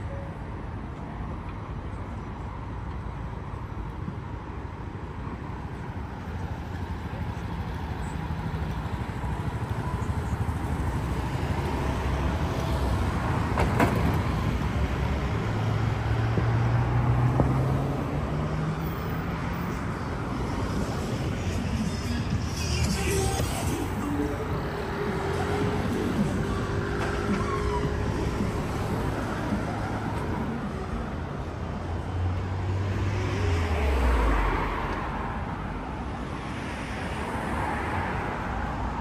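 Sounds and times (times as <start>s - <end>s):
vehicle engine hum: 0.0s - 36.3s
street traffic: 0.0s - 39.0s.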